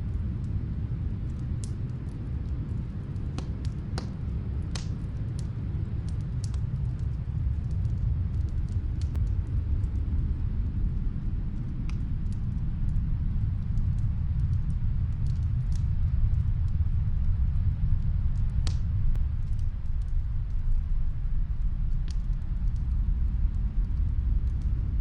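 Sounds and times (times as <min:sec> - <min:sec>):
snowstorm wind rumble: 0:00.0 - 0:25.0
wood fire crackling: 0:00.0 - 0:25.0.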